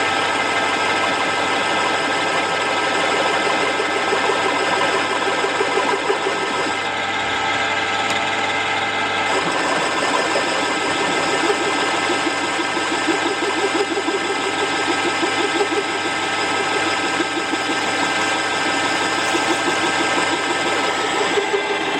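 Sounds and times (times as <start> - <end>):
lathe rhythmic chatter: 0.0 - 6.9, 9.3 - 21.9
lathe geartrain whine: 0.0 - 21.9.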